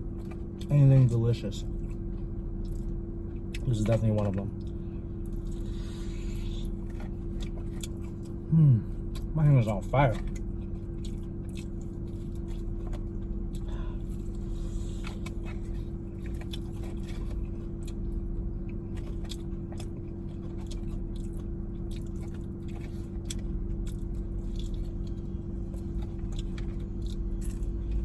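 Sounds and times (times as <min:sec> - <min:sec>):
chewing crispy chicken: 0:00.0 - 0:28.0
low car hum: 0:00.0 - 0:28.0.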